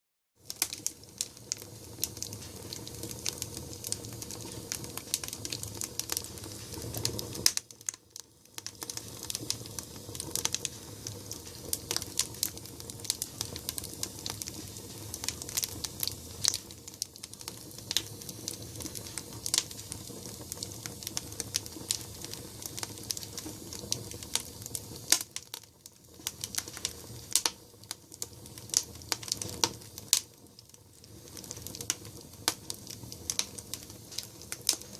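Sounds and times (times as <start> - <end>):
fire crackling and popping: 0.4 - 34.9
low rumble of flames: 0.4 - 34.9.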